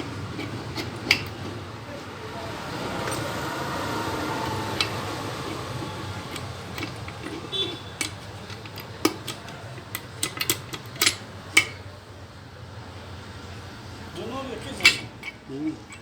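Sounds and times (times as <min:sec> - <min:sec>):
metal tools clicking and clinking: 0:00.0 - 0:01.5, 0:02.7 - 0:12.0, 0:13.4 - 0:16.0.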